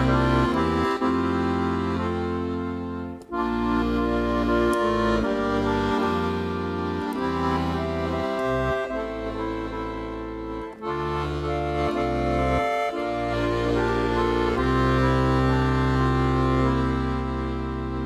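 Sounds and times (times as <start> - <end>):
accordion playing slow melody: 0.0 - 18.0.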